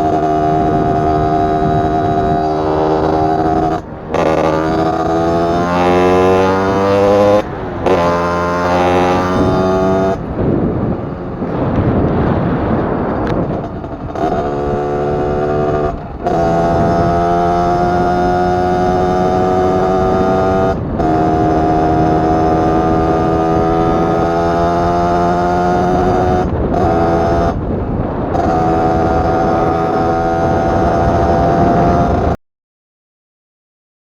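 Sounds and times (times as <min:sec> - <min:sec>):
two-stroke engine at high revs: 0:00.0 - 0:32.4.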